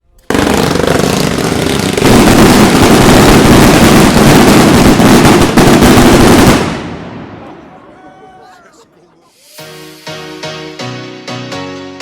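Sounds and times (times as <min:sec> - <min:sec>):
fireworks barrage crackling: 0:00.2 - 0:10.0.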